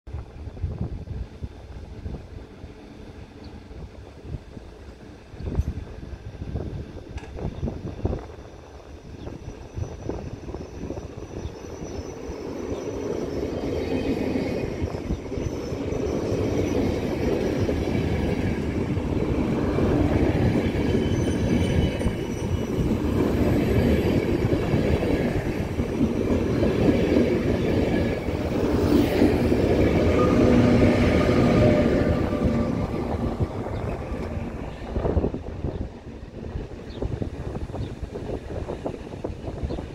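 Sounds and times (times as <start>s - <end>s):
passenger train rolling past: 0.1s - 39.9s
electric locomotive humming: 0.2s - 39.9s.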